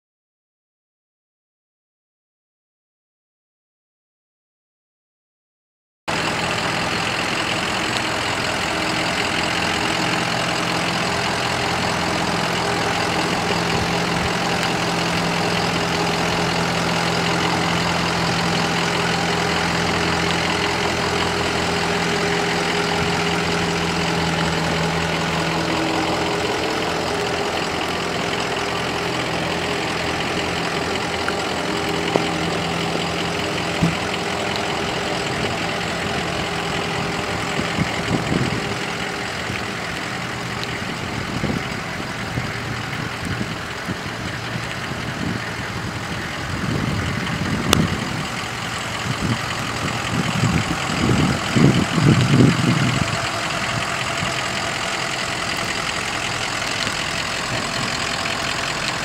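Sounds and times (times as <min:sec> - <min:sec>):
diesel engine idling: 0:06.1 - 0:59.0.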